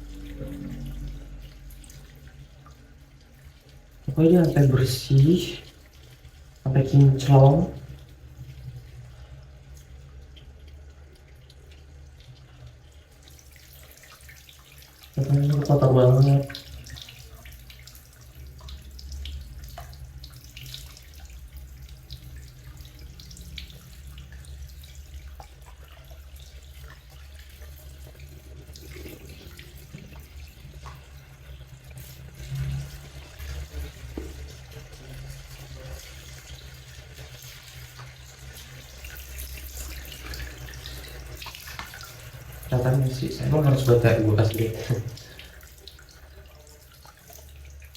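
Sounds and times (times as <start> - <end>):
faint water splashes: 0.0 - 47.9
water running from hose: 0.0 - 47.9.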